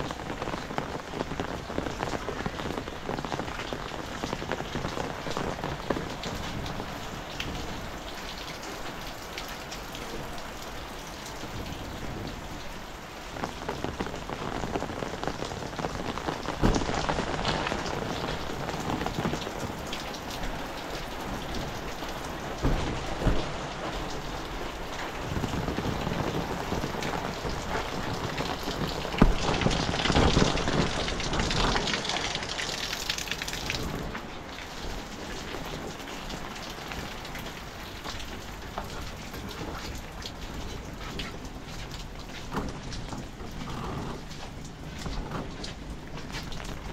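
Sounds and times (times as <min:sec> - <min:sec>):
heavy rain on roofs: 0:00.0 - 0:46.9
splashing runoff: 0:00.0 - 0:46.9.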